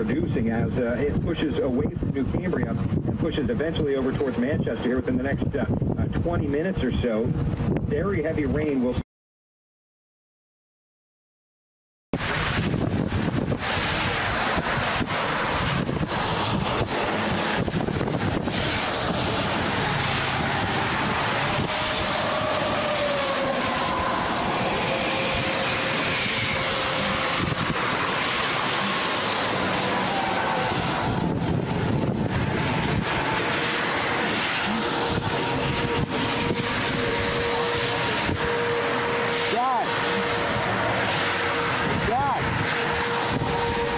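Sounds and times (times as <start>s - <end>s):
wind buffeting microphone: 0.0s - 9.0s, 12.2s - 43.9s.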